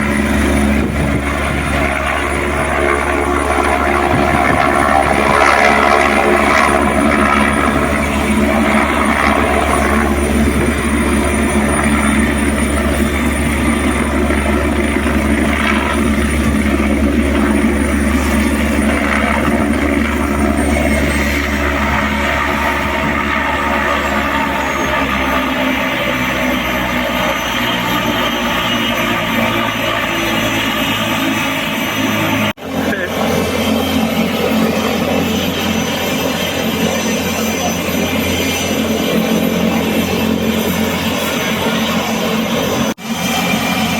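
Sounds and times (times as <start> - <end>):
helicopter rotor noise: 0.0 - 43.9.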